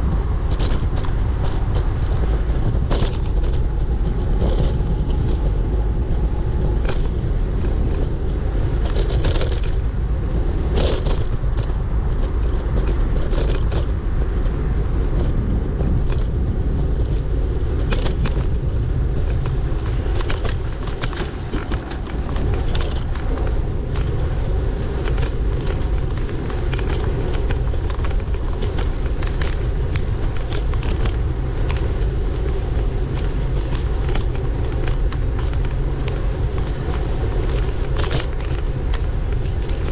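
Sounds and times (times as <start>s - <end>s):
bicycle clicks and rattles: 0.0s - 39.9s
bicycle rolling rumble: 0.0s - 39.9s.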